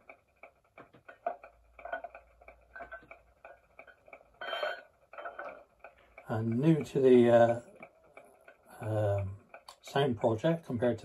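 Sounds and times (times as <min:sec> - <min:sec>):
faint rapid ticking: 0:00.0 - 0:11.0.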